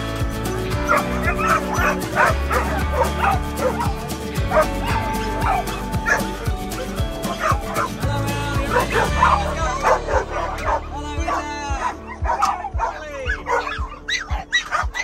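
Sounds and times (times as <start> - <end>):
background music: 0.0 - 15.0
dogs barking and yipping: 0.0 - 15.0.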